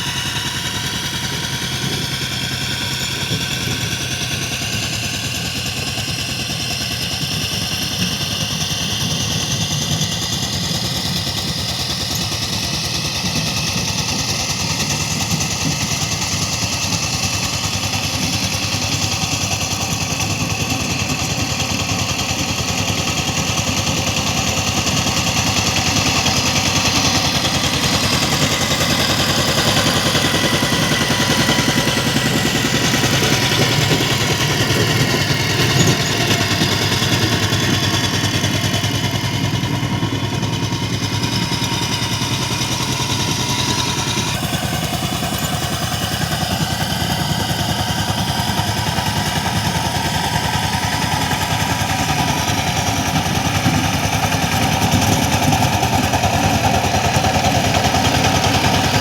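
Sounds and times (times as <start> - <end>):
power tiller engine chugging: 0.0 - 59.0.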